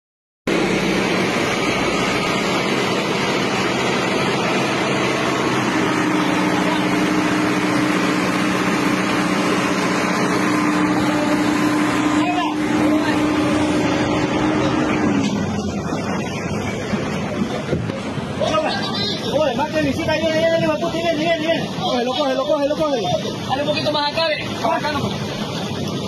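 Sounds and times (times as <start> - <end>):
diesel engine running: 0.5 - 26.0
steady hum: 0.5 - 26.0.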